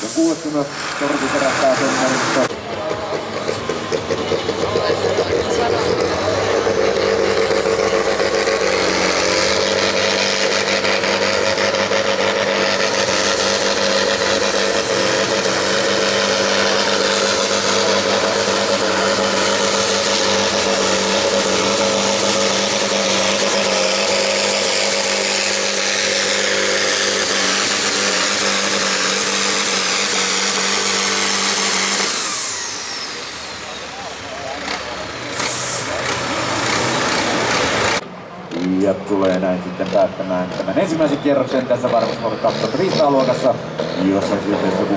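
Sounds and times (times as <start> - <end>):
tractor engine droning under load: 0.0 - 44.9.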